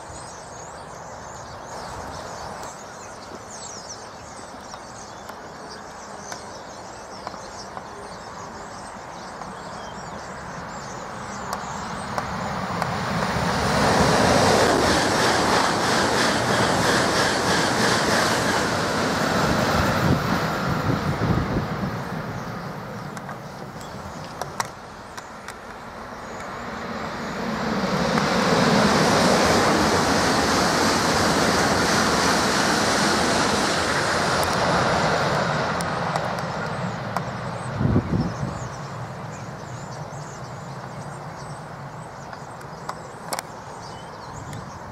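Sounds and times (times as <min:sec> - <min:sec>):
electric trains passing at speed: 0:00.0 - 0:44.9.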